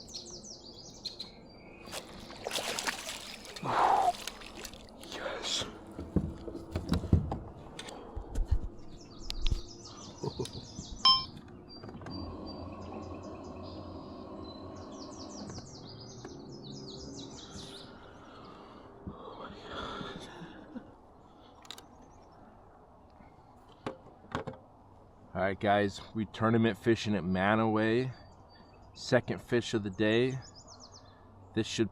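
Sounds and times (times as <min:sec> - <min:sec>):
birds chirping: 0:00.0 - 0:31.9.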